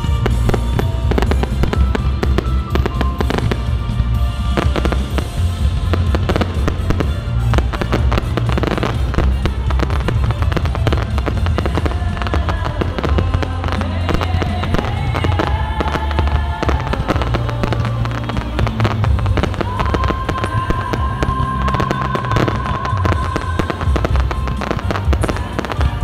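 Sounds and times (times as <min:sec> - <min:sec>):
fireworks bangs and crackles: 0:00.0 - 0:26.0
loud music with heavy bass: 0:00.0 - 0:26.0.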